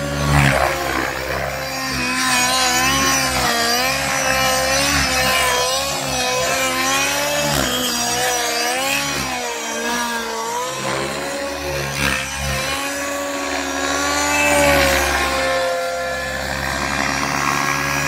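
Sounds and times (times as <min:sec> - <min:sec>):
model helicopter engine whining: 0:00.0 - 0:18.0.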